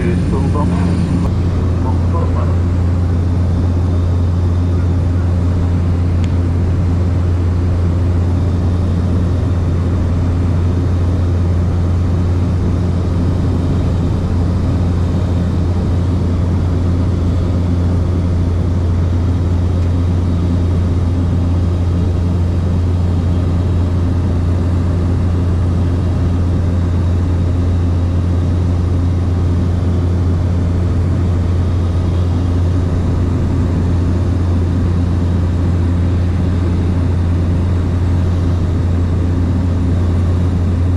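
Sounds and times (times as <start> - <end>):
aircraft engine droning in cabin: 0.0 - 40.9.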